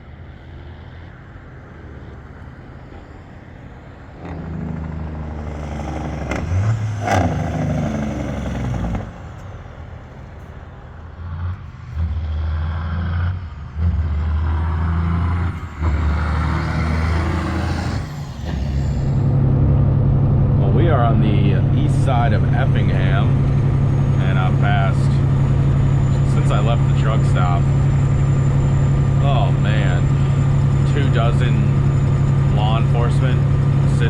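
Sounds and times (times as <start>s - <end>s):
truck diesel engine shifting gears: 0.0s - 34.0s.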